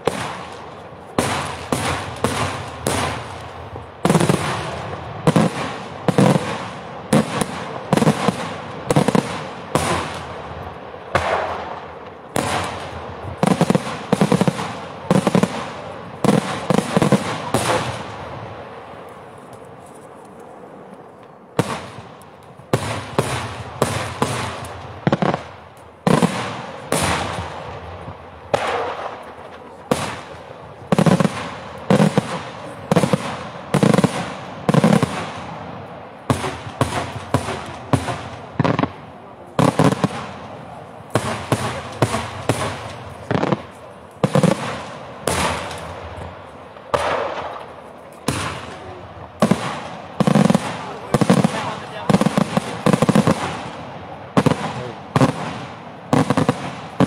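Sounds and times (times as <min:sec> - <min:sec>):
fireworks bangs: 0:00.0 - 0:19.8, 0:20.6 - 0:57.0.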